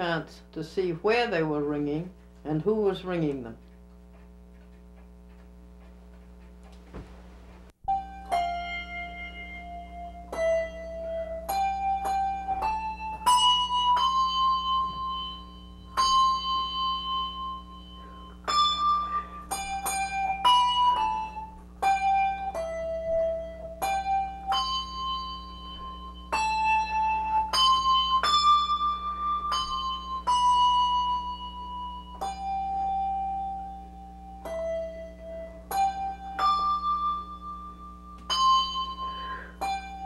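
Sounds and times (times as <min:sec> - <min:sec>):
faint low hum: 0:00.0 - 0:40.0
handbells ringing a slow tune: 0:07.9 - 0:40.0.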